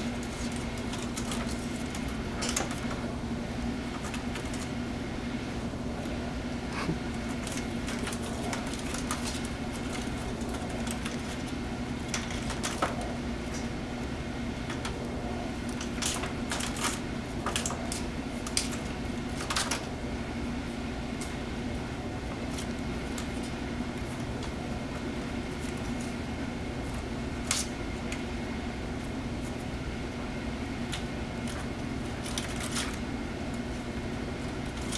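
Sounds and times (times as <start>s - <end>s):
kittens scampering on concrete: 0.0s - 5.0s, 5.6s - 20.0s, 20.8s - 34.9s
steady hum: 0.0s - 34.9s.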